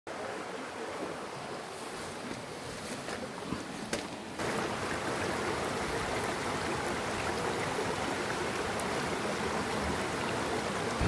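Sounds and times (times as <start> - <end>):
stream flowing over rocks: 0.1 - 11.0.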